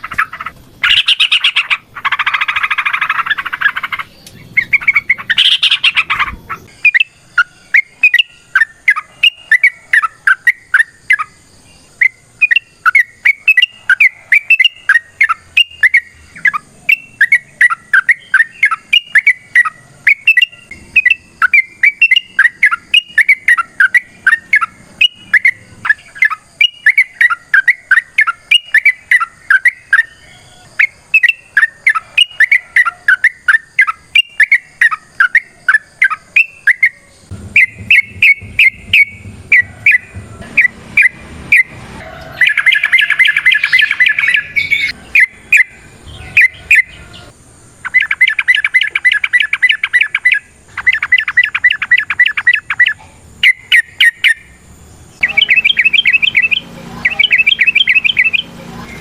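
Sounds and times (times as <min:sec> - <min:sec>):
bird chattering song: 0:00.0 - 0:59.0.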